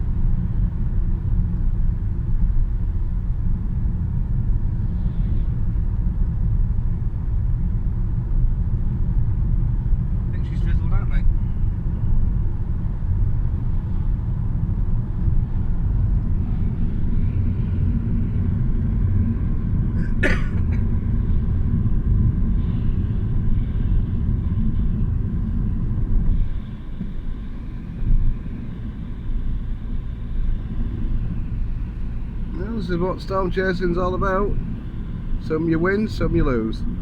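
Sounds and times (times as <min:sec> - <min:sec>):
car interior rumble: 0:00.0 - 0:37.0.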